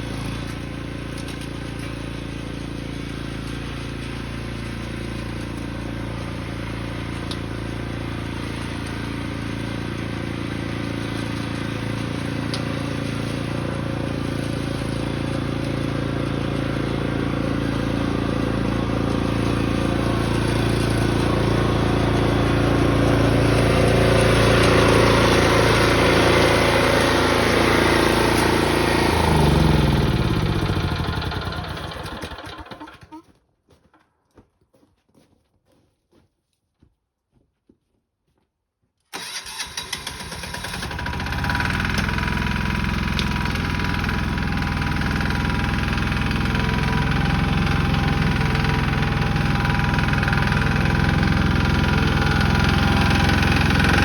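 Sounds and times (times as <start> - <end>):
small petrol engine running: 0.0 - 33.3, 39.1 - 54.0.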